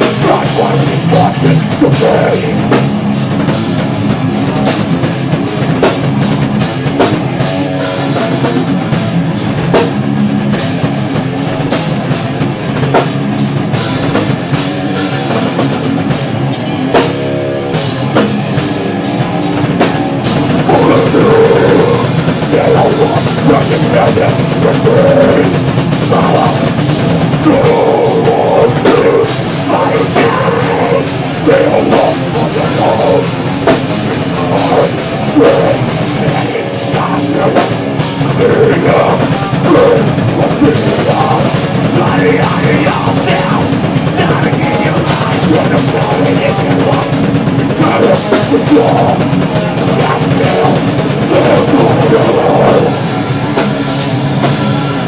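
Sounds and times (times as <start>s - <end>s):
metal band playing: 0.0s - 55.0s.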